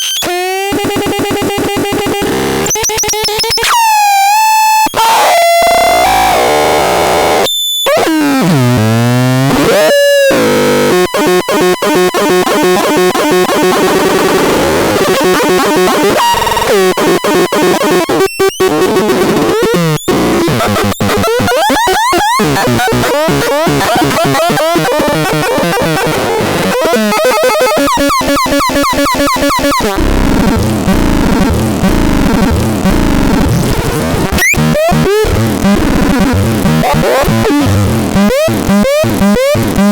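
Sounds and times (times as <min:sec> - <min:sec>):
glitchy synthesizer tones: 0:00.0 - 0:03.8, 0:05.9 - 0:39.9.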